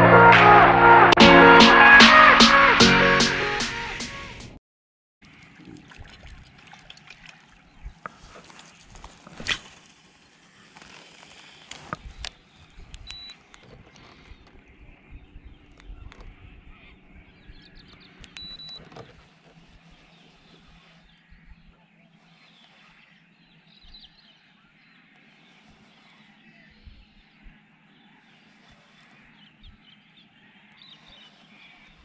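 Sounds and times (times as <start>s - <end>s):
birds calling: 5.2s - 32.0s.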